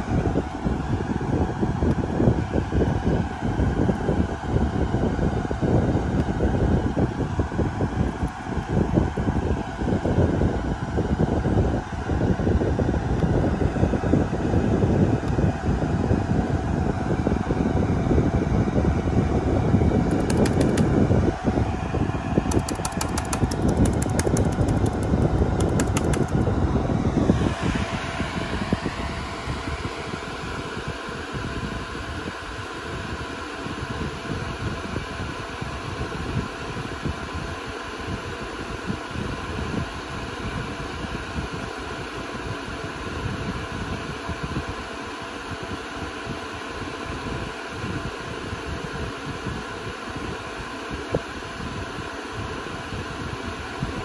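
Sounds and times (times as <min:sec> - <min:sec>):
cooling fans whirring: 0:00.0 - 0:54.0.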